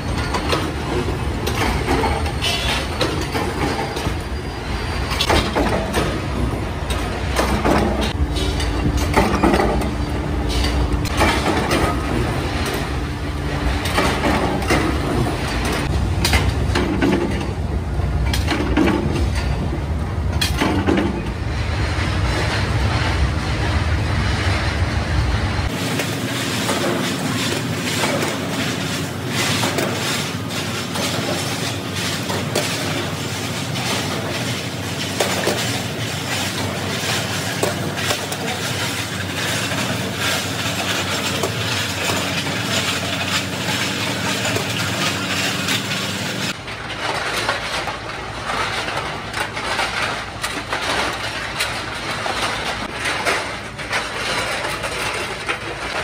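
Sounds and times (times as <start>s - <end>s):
rotating steel drum clattering: 0.0s - 23.2s, 25.6s - 56.0s
metal blades rattling on conveyor: 0.0s - 24.9s, 25.6s - 56.0s.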